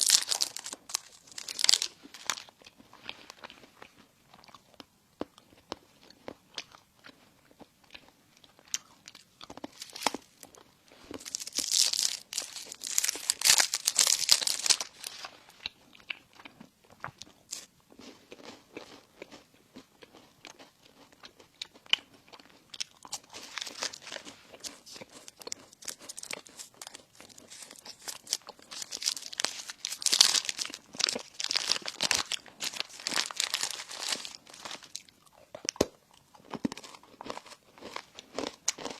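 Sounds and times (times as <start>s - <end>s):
person chewing crispy bread: 0.0s - 38.9s.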